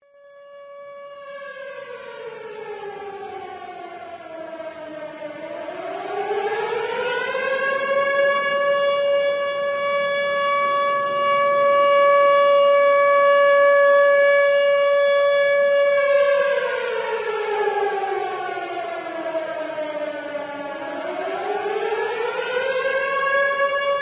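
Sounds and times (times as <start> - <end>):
warning siren wailing: 0.0 - 24.0.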